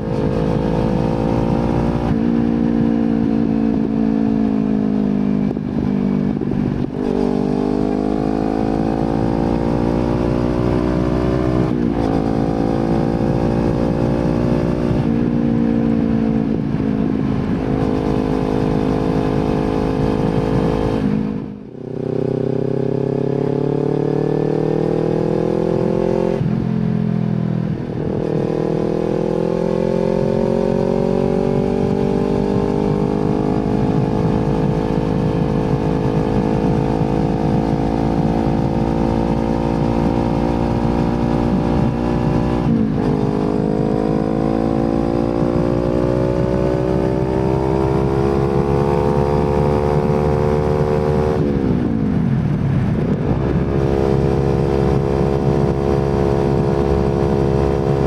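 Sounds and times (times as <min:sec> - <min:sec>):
motorcycle accelerating through gears: 0:00.0 - 0:58.0.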